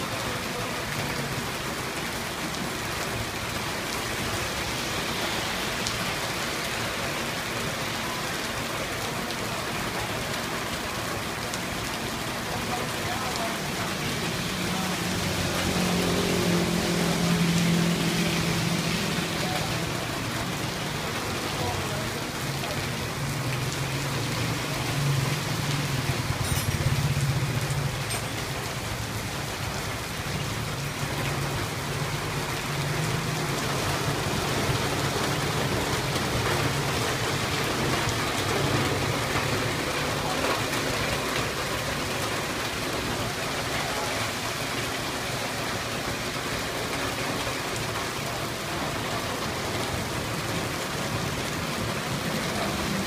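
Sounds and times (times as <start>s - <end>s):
heavy rain pouring: 0.0s - 53.0s
traffic through water: 0.0s - 53.0s.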